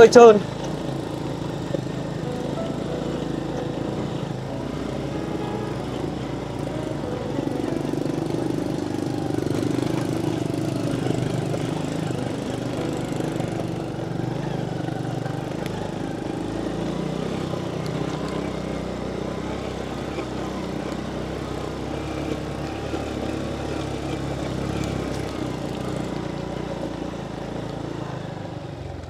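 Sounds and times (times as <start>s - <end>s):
small motorbike engine running: 0.0s - 29.0s.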